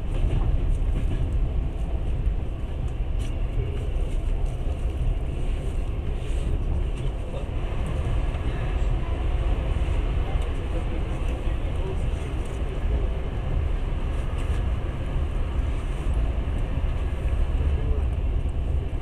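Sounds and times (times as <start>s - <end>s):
train rumble from inside: 0.0s - 19.0s.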